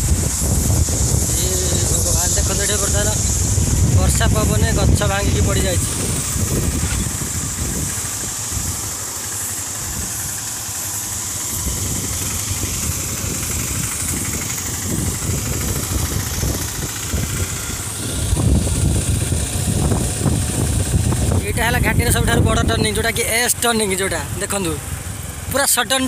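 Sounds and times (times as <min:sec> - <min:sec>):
wind buffeting microphone: 0:00.0 - 0:23.5
vehicle engine running: 0:00.0 - 0:26.0.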